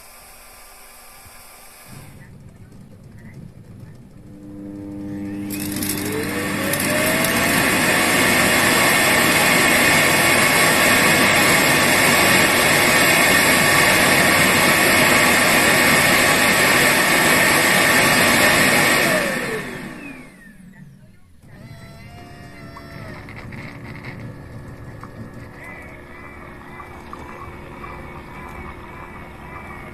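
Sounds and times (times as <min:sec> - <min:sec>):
suction fan whining and rushing: 0:00.0 - 0:29.9.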